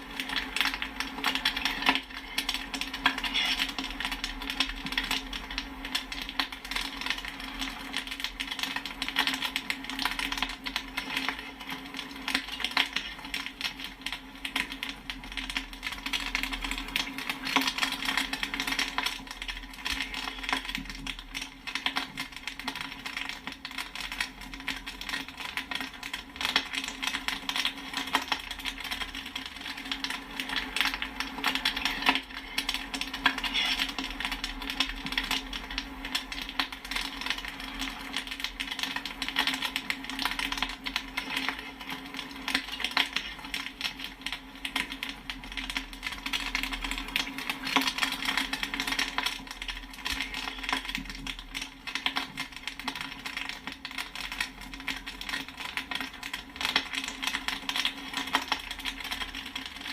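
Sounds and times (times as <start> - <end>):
low steady hum: 0.0 - 59.9
popcorn popping: 0.0 - 59.9.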